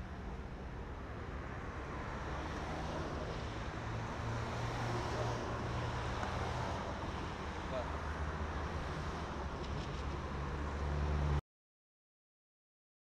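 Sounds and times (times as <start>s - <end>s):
cars driving past: 0.0s - 11.4s.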